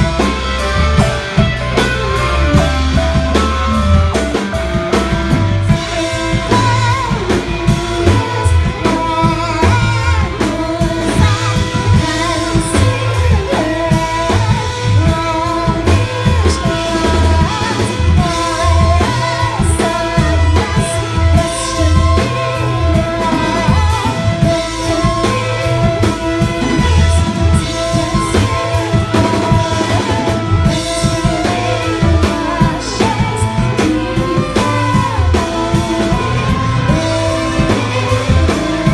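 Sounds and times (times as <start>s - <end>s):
bass guitar: 0.0s - 38.9s
drum kit: 0.0s - 38.9s
electric guitar: 0.0s - 38.9s
person singing: 0.0s - 38.9s.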